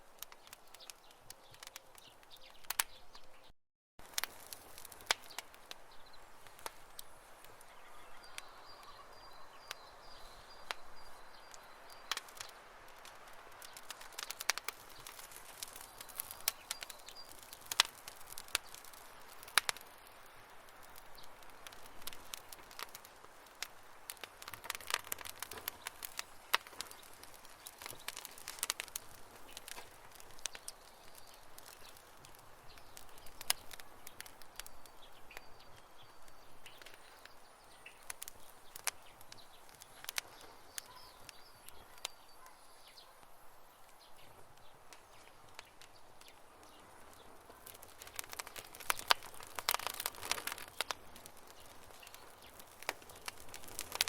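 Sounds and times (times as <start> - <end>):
campfire crackling and popping: 0.0 - 54.0
faint steady hiss: 4.0 - 54.0.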